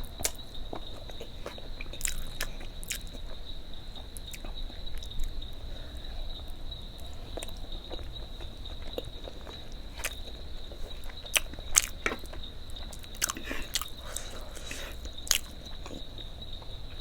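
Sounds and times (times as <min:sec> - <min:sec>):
person chewing food: 0:00.0 - 0:16.8.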